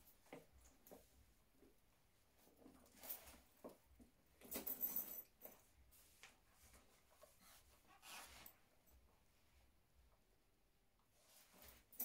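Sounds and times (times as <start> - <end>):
clothing and handbag rustling: 0.0 - 9.4, 11.1 - 12.0.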